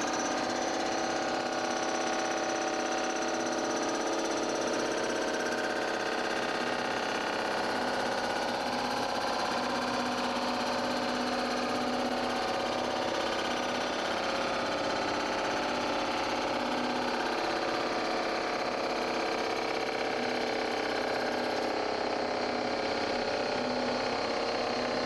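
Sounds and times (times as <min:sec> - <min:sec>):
milling machine cutting metal: 0:00.0 - 0:25.0.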